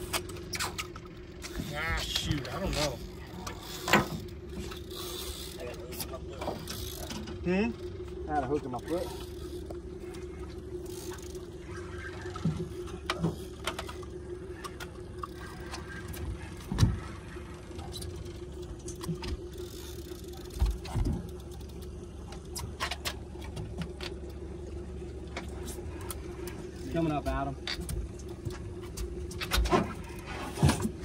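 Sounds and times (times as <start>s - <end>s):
knocks and clatter on boat: 0.0s - 4.9s, 5.5s - 31.0s
boat motor idling: 0.0s - 31.0s.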